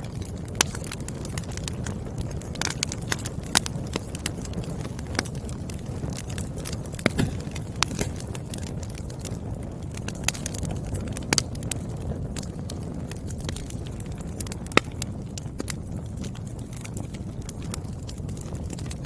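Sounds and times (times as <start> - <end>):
logs crackling and popping: 0.0 - 19.0
wood fire flame rushing: 0.0 - 19.0.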